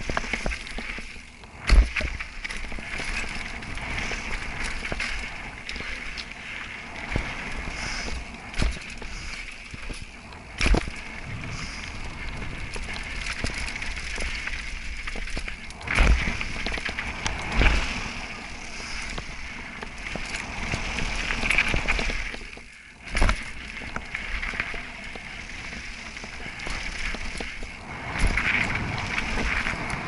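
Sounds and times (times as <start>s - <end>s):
bike knocking and rattling on bumps: 0.0s - 30.0s
bike tyres rolling over dirt: 0.0s - 30.0s.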